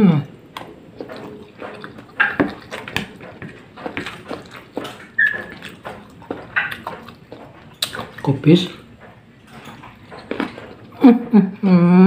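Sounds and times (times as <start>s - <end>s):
person chewing and lip-smacking: 0.0s - 11.3s.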